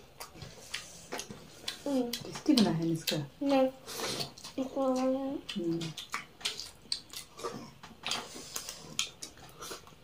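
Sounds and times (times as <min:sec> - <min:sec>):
fingers mixing food on steel plates: 0:00.0 - 0:10.0
mouths chewing: 0:00.0 - 0:10.0.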